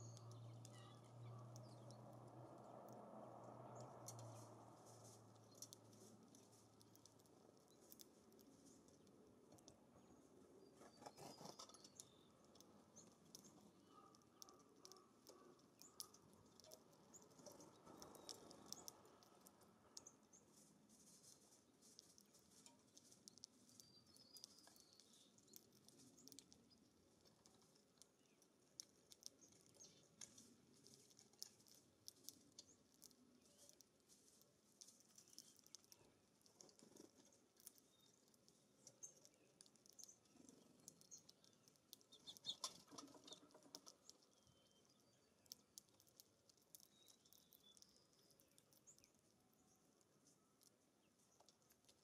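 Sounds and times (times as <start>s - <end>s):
birds pecking and cracking seed: 0.0s - 52.0s
soft high bird chirps: 0.0s - 52.0s.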